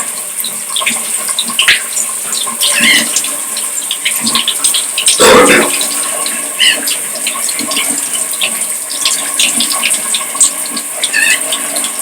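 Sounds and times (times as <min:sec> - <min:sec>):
shower water spraying: 0:01.2 - 0:12.0.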